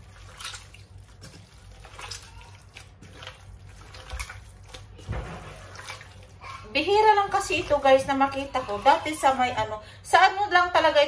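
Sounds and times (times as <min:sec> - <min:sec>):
hands squishing chicken in vinegar: 0:00.0 - 0:09.6.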